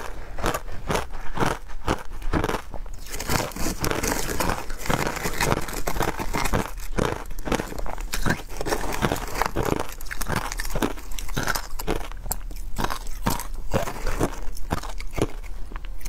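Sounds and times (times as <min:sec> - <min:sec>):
ice crunching under spoon: 0:00.0 - 0:16.0.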